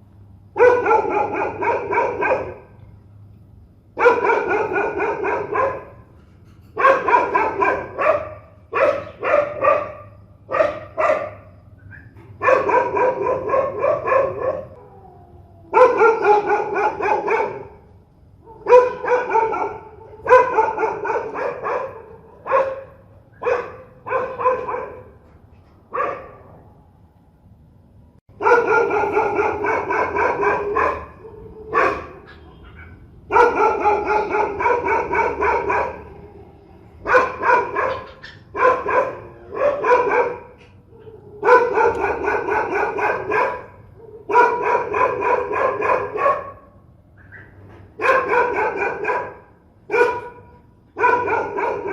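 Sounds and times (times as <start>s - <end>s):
dog barking fiercely: 0.5s - 2.8s, 3.9s - 14.8s, 15.7s - 25.2s, 25.9s - 26.6s, 28.3s - 51.9s.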